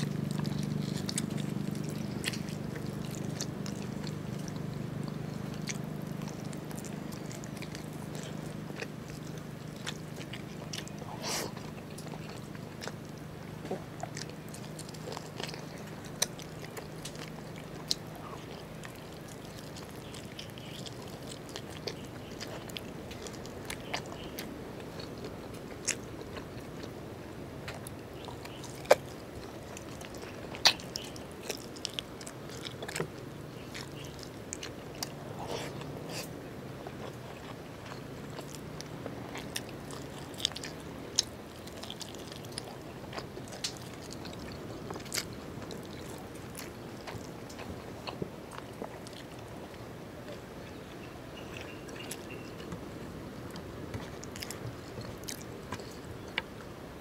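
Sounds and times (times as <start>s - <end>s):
steady low hum: 0.0s - 57.0s
wet chewing and lip smacking: 0.0s - 57.0s.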